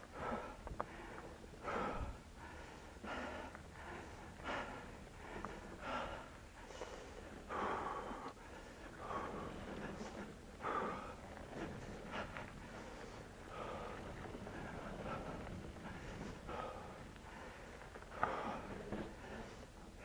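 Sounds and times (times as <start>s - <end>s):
heavy breathing: 0.0s - 20.0s.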